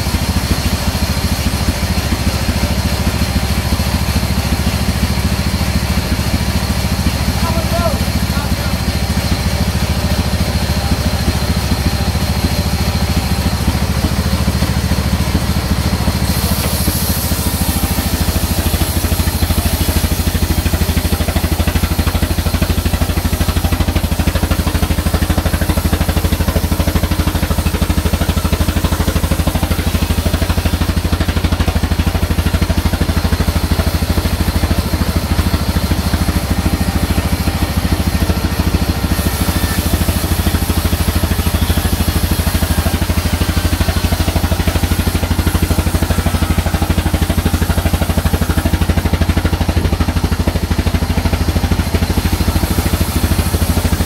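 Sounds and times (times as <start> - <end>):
diesel engine chugging: 0.0 - 54.0
band saw cutting log: 6.0 - 54.0.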